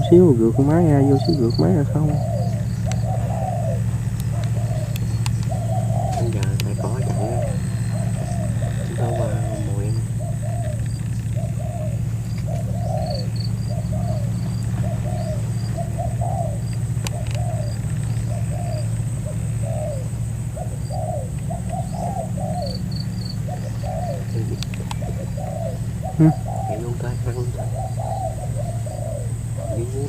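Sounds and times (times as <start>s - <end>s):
doves cooing: 0.0s - 30.0s
steady low hum: 0.0s - 30.0s.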